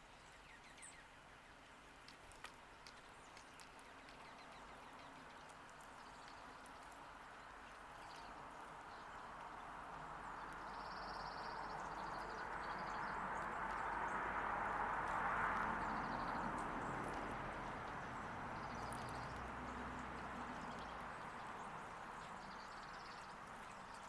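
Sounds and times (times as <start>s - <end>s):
small birds trilling: 2.9s - 14.4s, 15.5s - 24.0s.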